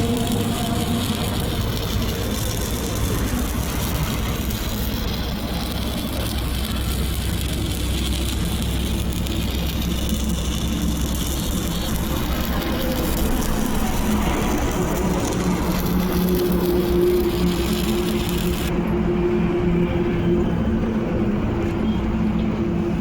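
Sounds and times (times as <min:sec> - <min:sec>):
welding arc crackling: 0:00.0 - 0:18.8
low engine drone: 0:00.0 - 0:23.0.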